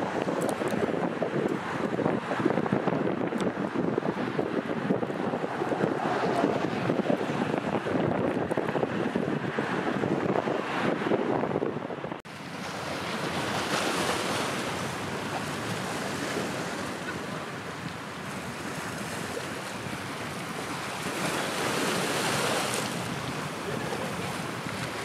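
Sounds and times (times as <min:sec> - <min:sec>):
choppy sea water: 0:00.0 - 0:25.0
wind on microphone: 0:00.0 - 0:25.0.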